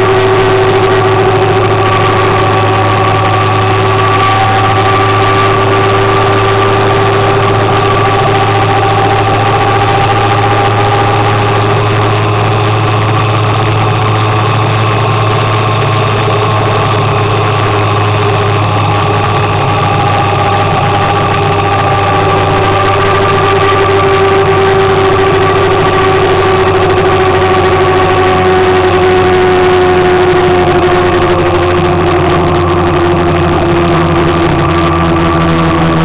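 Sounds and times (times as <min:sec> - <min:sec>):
motor scooter engine running: 0:00.0 - 0:36.0.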